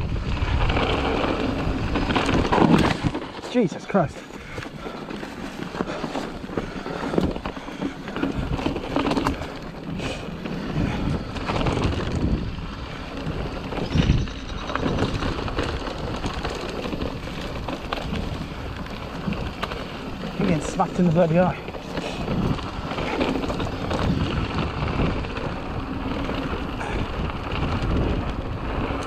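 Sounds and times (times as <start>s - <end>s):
wind on microphone: 0.0s - 3.2s, 7.0s - 29.0s
bike rattling: 0.0s - 29.0s
bike tyre rumble: 0.0s - 29.0s.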